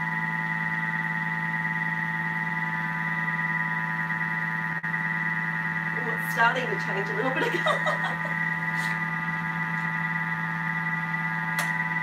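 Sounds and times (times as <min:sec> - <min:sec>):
food processor motor humming and whining: 0:00.0 - 0:12.0.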